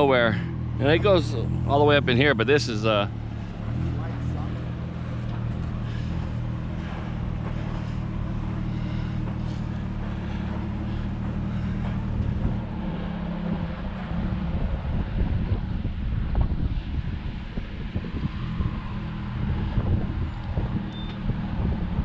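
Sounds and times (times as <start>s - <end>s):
car engine running low speed: 0.0s - 22.0s.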